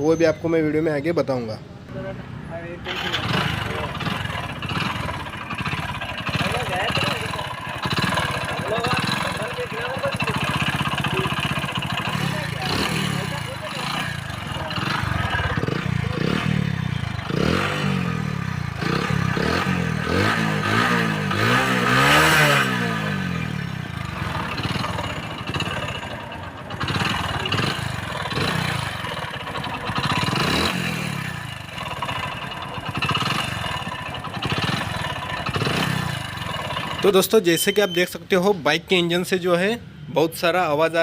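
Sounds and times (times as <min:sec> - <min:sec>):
motorcycle engine clattering and revving: 0:02.8 - 0:37.6.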